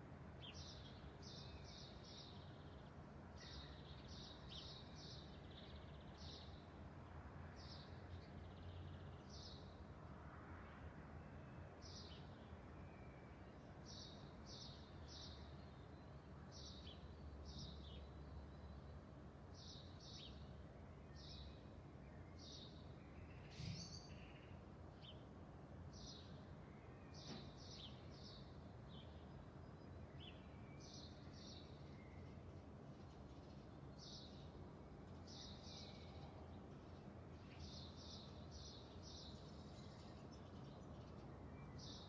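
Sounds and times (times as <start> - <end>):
songbird singing: 0.4 - 9.8, 11.8 - 42.0.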